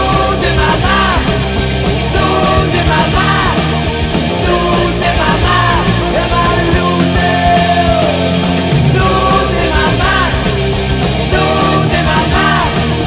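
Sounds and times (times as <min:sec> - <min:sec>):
heavy metal band playing: 0:00.0 - 0:13.0
pitch-bending guitar lead: 0:00.0 - 0:13.0.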